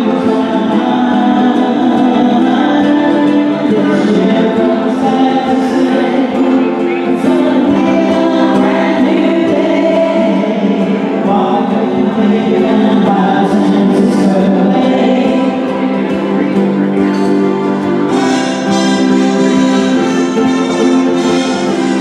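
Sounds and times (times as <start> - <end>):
acoustic guitars playing: 0.0 - 22.0
voices singing together: 0.0 - 22.0.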